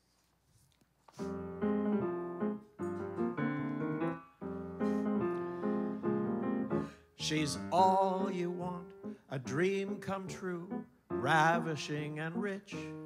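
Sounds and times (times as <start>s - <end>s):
piano chords ringing: 1.3s - 13.0s.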